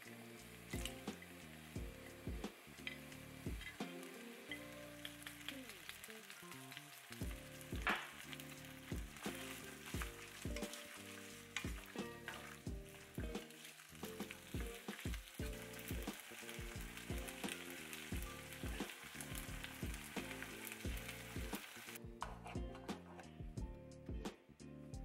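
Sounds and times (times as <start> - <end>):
background music with steady beat: 0.0 - 5.4, 7.2 - 25.0
food sizzling in a pan: 0.0 - 22.0.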